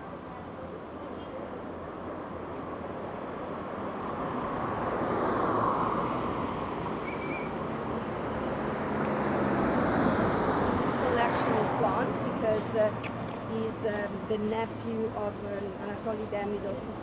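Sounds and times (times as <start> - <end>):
passing traffic rushing: 1.6 - 17.0.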